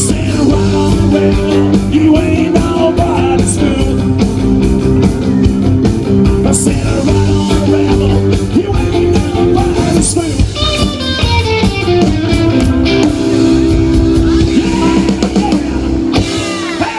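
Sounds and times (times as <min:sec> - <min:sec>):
rock and roll band playing: 0:00.0 - 0:16.9.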